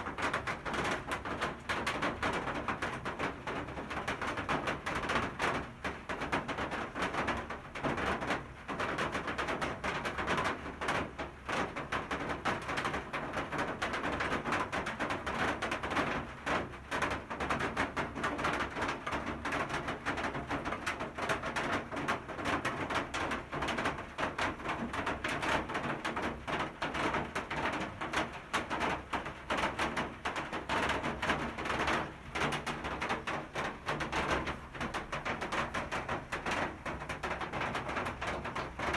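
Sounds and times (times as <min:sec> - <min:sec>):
rain on hard surfaces and leaves: 0:00.0 - 0:38.9.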